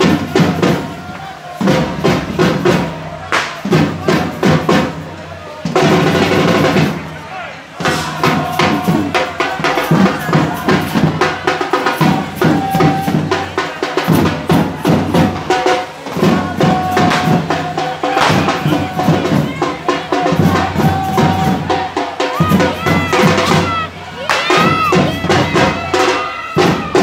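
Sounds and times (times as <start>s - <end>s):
drums beating fast rhythm: 0.0s - 27.0s
fireworks crackling and banging: 0.0s - 27.0s.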